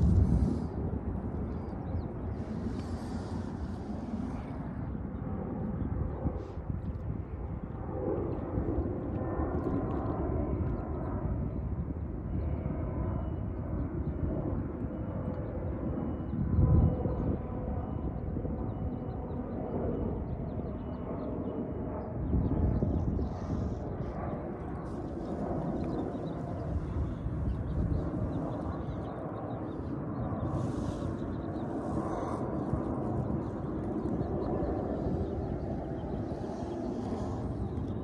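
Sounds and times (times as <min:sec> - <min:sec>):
airplane rumble: 0:00.0 - 0:38.0.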